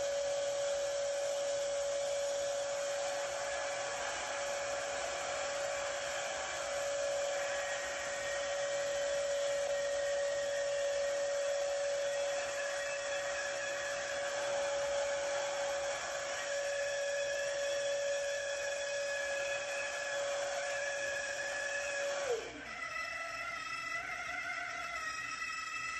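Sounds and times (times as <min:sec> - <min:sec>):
shop vacuum drawing air: 0:00.0 - 0:24.2
paddle mixer drill running: 0:00.0 - 0:25.9.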